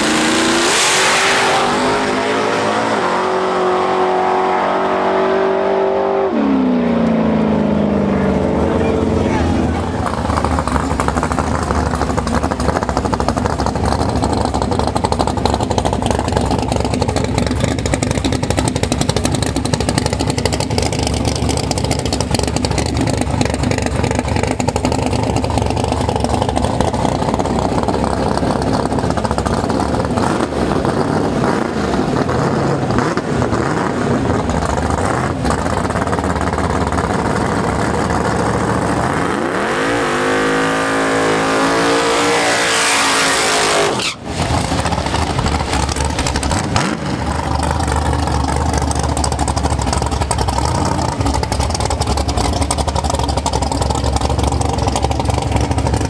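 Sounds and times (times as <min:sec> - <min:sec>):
car engine idling: 0:06.7 - 0:39.4, 0:43.6 - 0:56.0.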